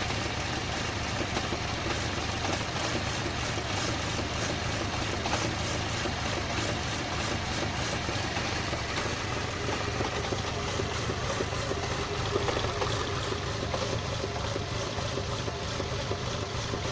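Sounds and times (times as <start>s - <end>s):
car engine idling roughly: 0.0s - 16.9s.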